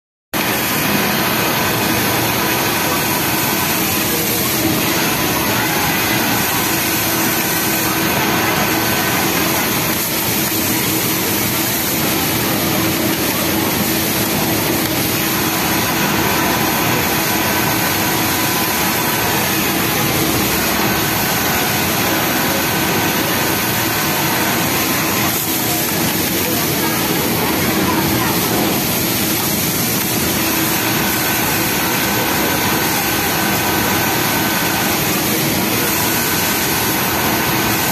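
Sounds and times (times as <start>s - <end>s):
industrial sewing machines running: 0.4s - 37.9s
steady hum: 0.4s - 37.9s.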